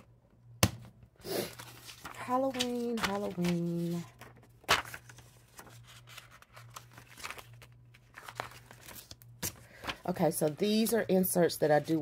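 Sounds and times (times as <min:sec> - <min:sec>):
paper rustling and sliding: 0:01.3 - 0:11.0.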